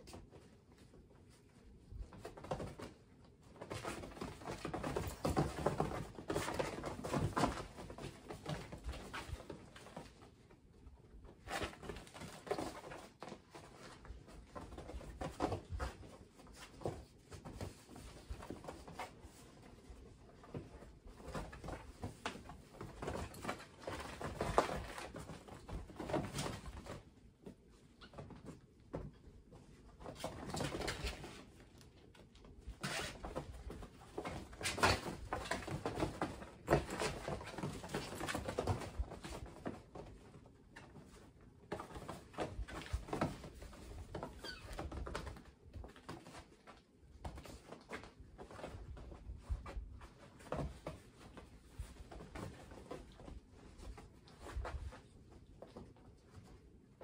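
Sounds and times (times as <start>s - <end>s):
kittens scuffling on fabric: 0.0s - 57.0s.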